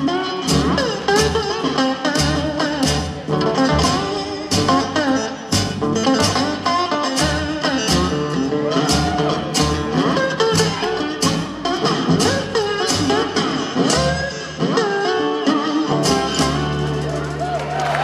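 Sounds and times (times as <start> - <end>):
slide guitar lead line: 0.0 - 17.4
acoustic blues band playing: 0.0 - 18.0.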